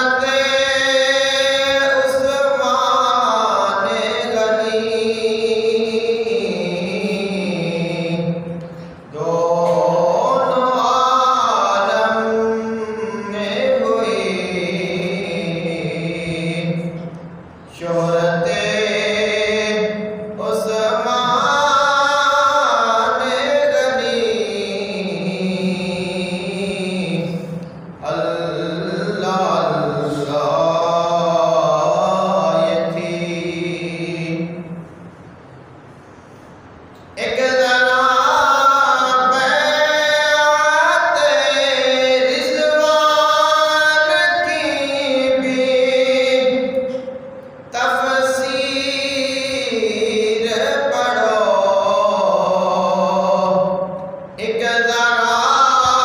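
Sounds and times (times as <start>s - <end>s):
man singing unaccompanied: 0.0s - 34.8s, 37.1s - 56.0s
man chanting devotional song: 0.0s - 35.1s, 37.1s - 56.0s.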